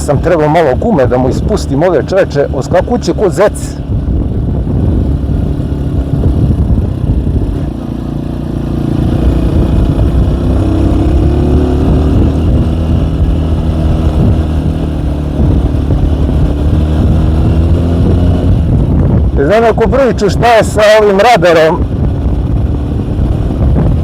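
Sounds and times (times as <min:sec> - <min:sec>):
moped engine running hard: 0:00.0 - 0:24.0.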